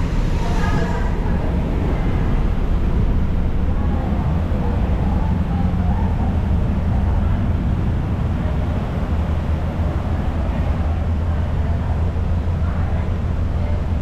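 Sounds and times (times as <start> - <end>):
city street low rumble: 0.0 - 14.0.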